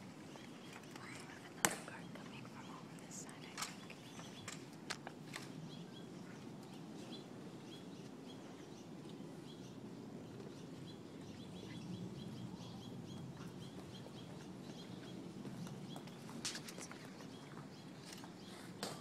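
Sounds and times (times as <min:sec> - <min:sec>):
low distant hum: 0:00.0 - 0:19.0
small bird chirping: 0:00.2 - 0:04.7, 0:05.4 - 0:18.7.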